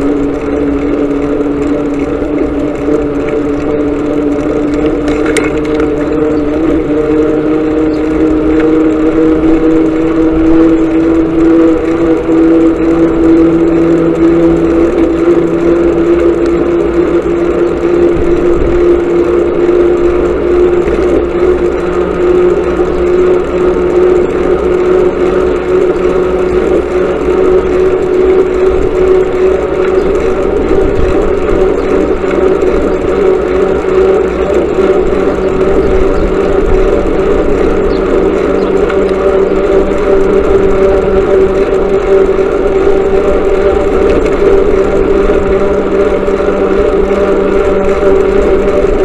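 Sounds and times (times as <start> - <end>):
motorcycle engine droning: 0.0 - 49.0.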